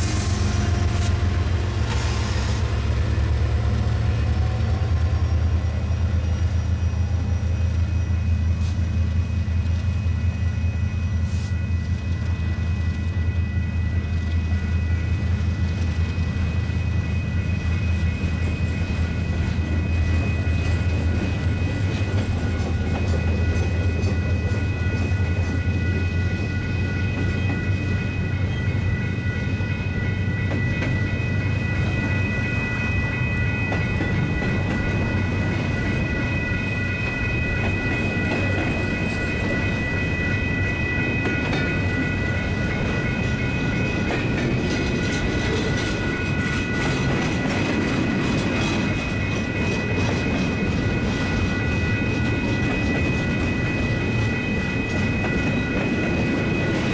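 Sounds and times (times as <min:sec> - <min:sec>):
diesel locomotives rumbling: 0:00.0 - 0:56.9
train wheels on rails: 0:00.0 - 0:56.9.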